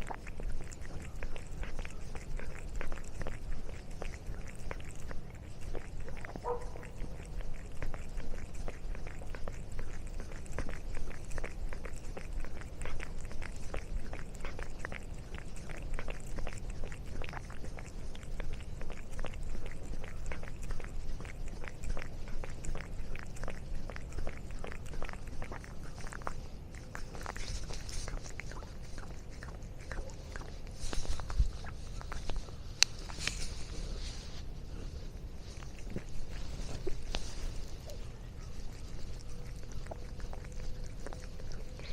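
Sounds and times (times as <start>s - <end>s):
cat crunching a snack: 0.0s - 41.9s.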